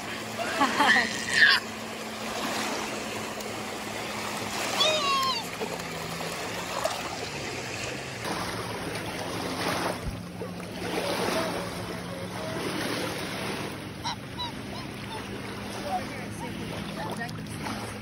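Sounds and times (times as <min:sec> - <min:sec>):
lake waves washing at shoreline: 0:00.0 - 0:18.0.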